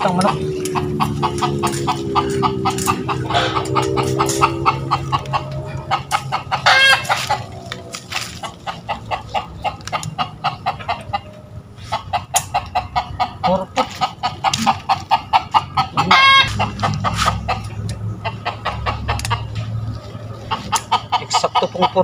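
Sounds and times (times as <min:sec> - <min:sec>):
chicken squawk: 0:00.0 - 0:07.7, 0:08.4 - 0:19.6
chickens alarm clucking: 0:00.0 - 0:22.0.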